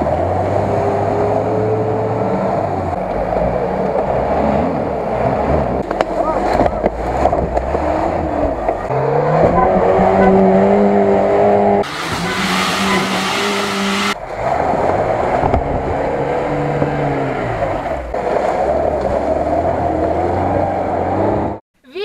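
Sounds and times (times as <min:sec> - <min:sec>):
off-road engines revving: 0:00.0 - 0:21.6.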